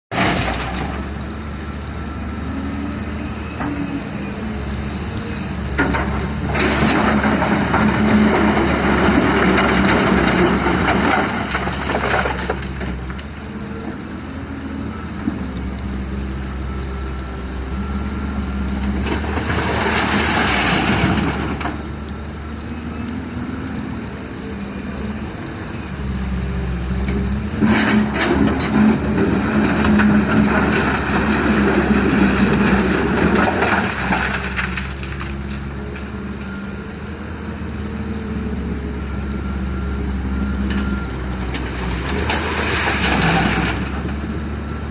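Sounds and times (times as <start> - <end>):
diesel engine running: 0.1 - 44.9.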